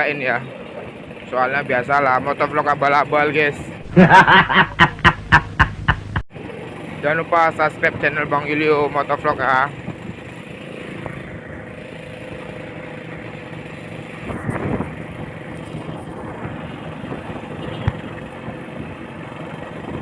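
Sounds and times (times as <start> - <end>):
two-stroke motorcycle engine: 0.0 - 5.2, 6.1 - 20.0.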